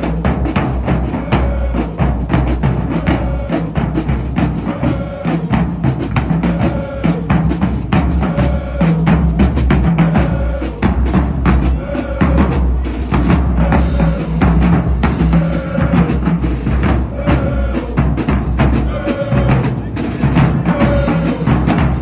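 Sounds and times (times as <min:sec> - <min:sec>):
marching drumline cadence: 0:00.0 - 0:22.0.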